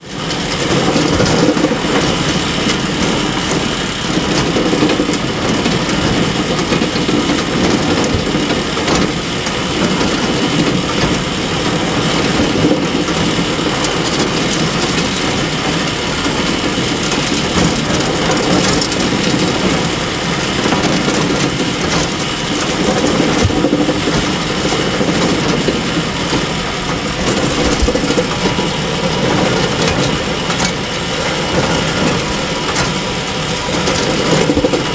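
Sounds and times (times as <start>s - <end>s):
hay bale elevator running: 0.0s - 34.9s.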